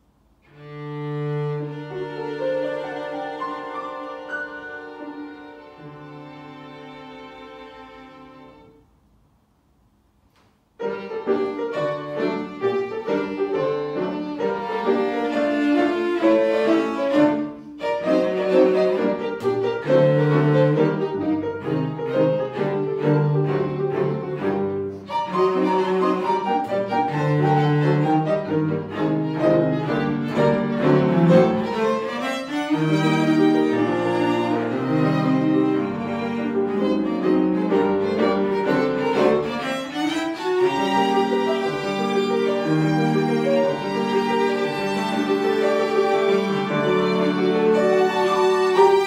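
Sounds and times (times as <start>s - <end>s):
violin cello and piano trio: 0.0s - 8.9s, 10.6s - 49.0s.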